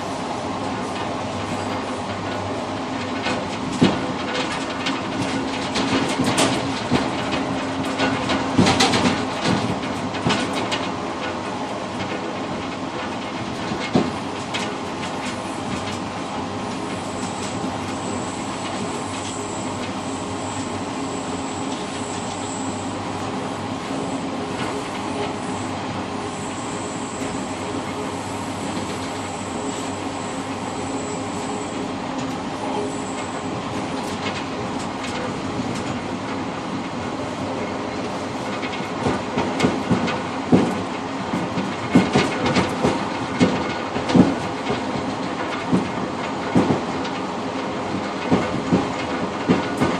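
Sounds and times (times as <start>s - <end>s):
train rolling rumble: 0.0s - 49.9s.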